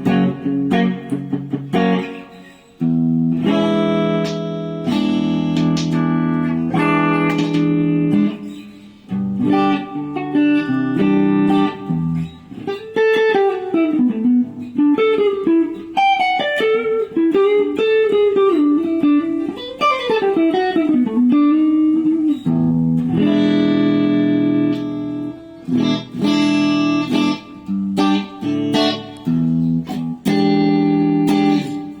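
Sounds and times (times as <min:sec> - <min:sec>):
clean electric guitar: 0:00.0 - 0:32.0.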